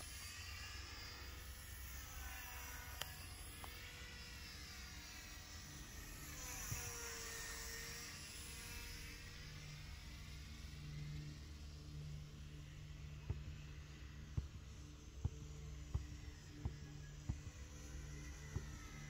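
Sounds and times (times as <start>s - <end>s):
model plane motor whine: 0.0s - 19.0s.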